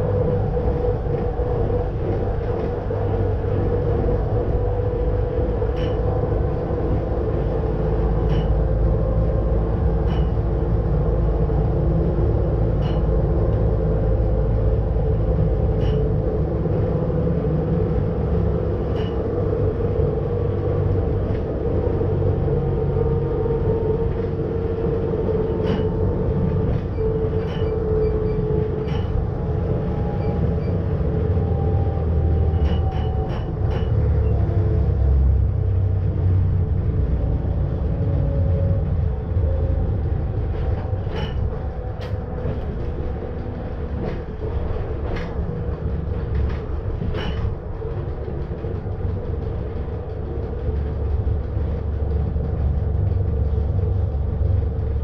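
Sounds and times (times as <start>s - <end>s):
electric train rumble and whine: 0.0s - 55.0s.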